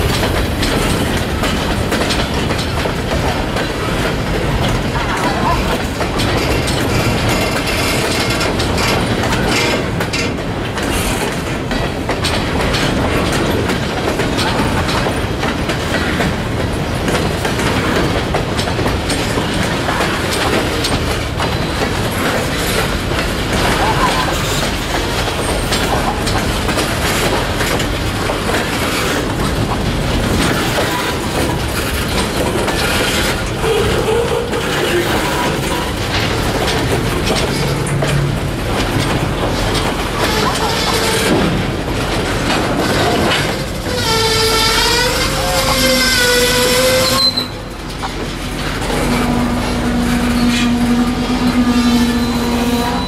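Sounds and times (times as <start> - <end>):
freight train rolling past: 0.0 - 53.0
wheels clacking over rail joints: 0.0 - 53.0.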